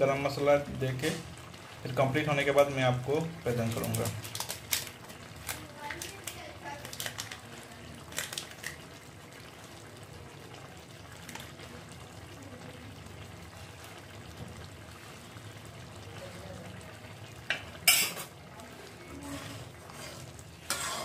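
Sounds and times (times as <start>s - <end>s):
curry bubbling in a pot: 0.0s - 21.0s.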